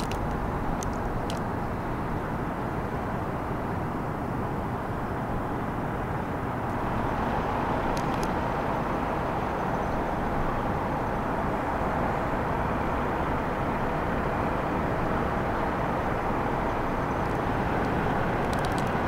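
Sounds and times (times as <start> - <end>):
rumble of vehicles or machinery: 0.0 - 19.0.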